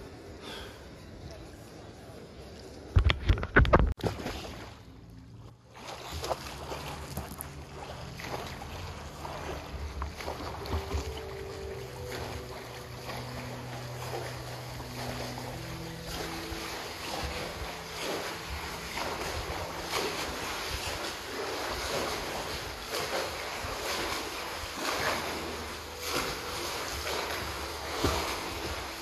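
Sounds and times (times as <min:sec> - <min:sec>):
kayak paddle splashing: 0:04.0 - 0:29.0.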